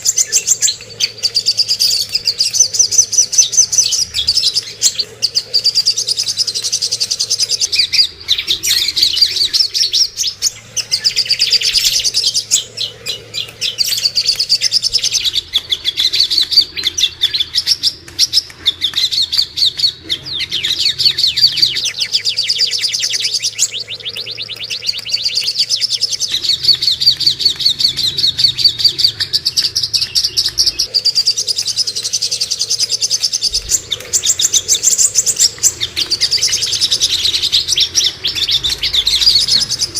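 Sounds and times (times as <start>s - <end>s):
bird chirping trills: 0.0s - 39.9s.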